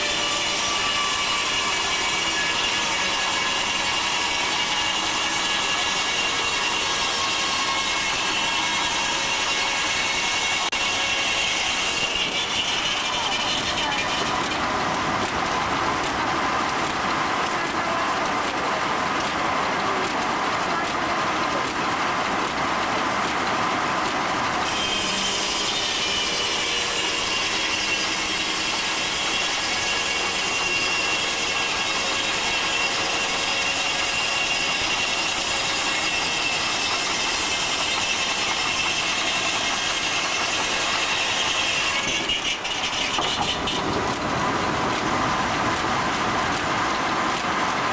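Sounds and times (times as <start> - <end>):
saw whining through log: 0.0 - 18.6, 24.6 - 47.0
sawmill machinery noise: 0.0 - 47.9.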